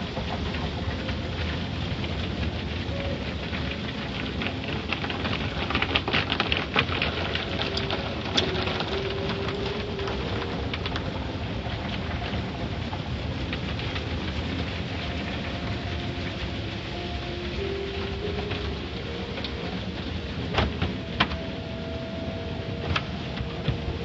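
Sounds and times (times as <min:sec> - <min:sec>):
water jets spraying on windshield: 0:00.0 - 0:24.0.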